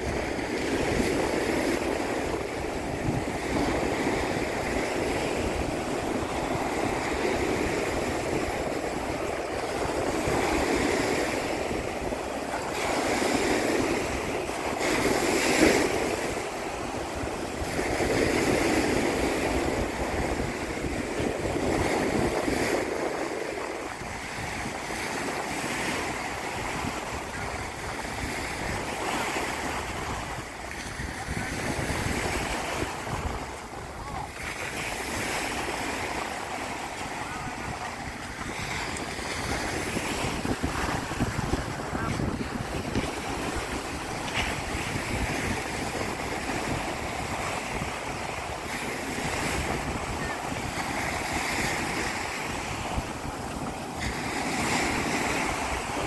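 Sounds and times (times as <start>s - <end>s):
waves washing onto beach: 0.0s - 56.0s
wind rumbling on microphone: 0.0s - 56.0s.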